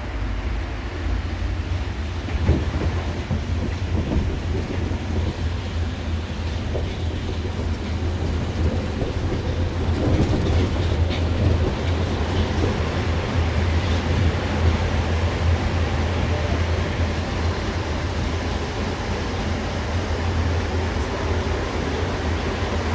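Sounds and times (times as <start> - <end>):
train cabin rumble: 0.0 - 22.9.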